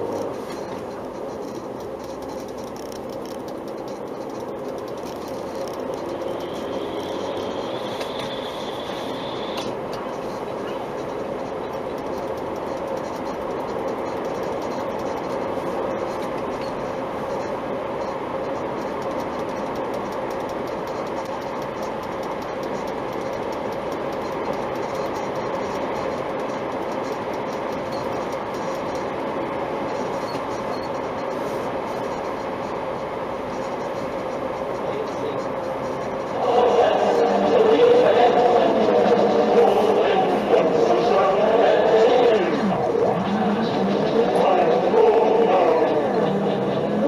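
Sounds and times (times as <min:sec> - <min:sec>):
rapid clicking: 0:00.0 - 0:47.0.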